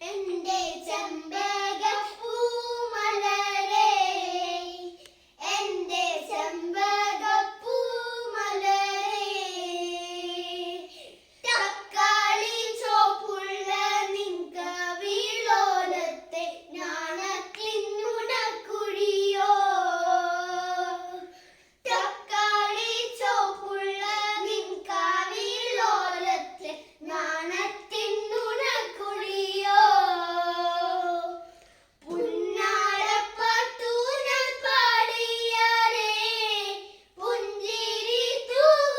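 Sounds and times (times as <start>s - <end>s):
children singing unaccompanied: 0.0s - 38.9s.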